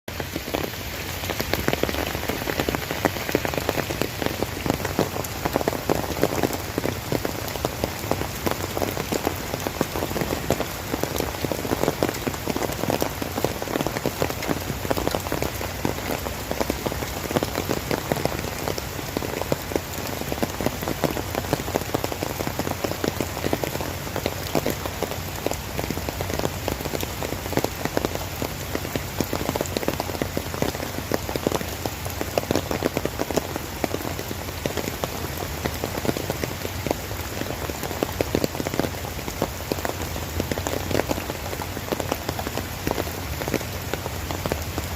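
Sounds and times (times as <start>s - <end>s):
rain pattering: 0.1s - 44.9s.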